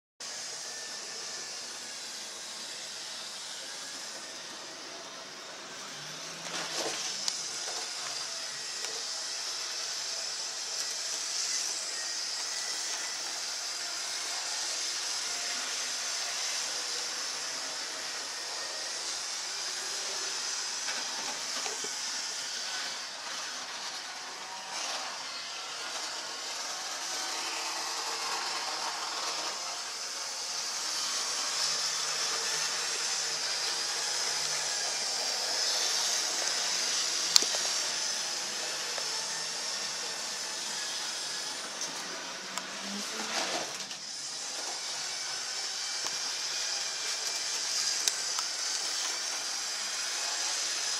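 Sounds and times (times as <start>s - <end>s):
model train whirring: 0.2s - 50.9s.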